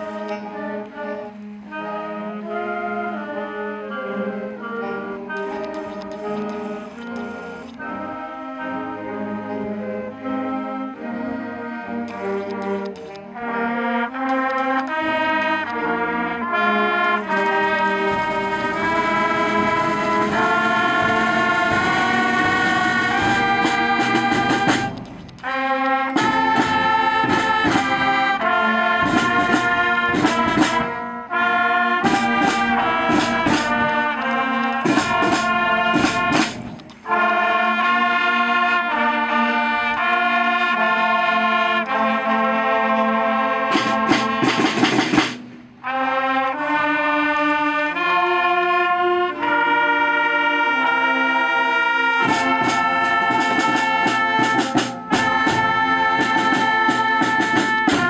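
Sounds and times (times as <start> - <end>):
school band playing: 0.0 - 58.0.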